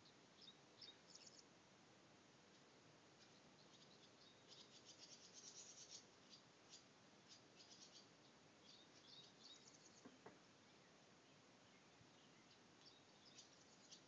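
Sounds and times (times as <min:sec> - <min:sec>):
distant bird chirping: 0:00.0 - 0:01.5, 0:02.4 - 0:14.0
background hiss: 0:00.0 - 0:14.0.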